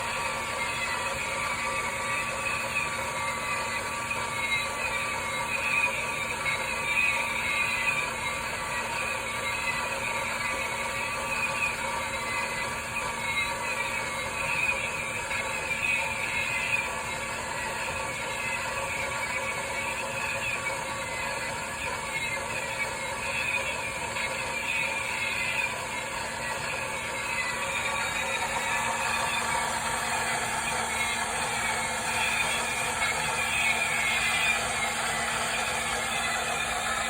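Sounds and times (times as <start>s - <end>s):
toy motor humming: 0.0s - 37.0s.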